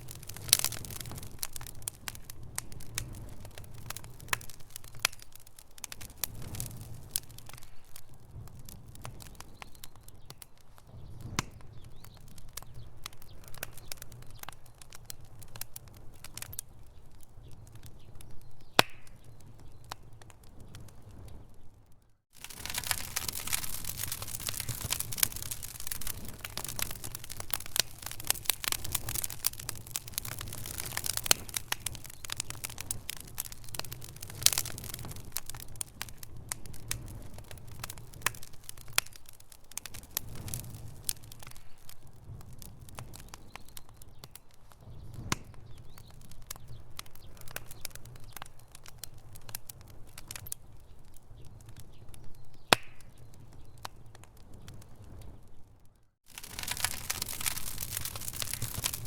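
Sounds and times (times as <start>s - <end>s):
low steady fire rumble: 0.0s - 59.0s
wood fire crackling and popping: 0.0s - 59.0s.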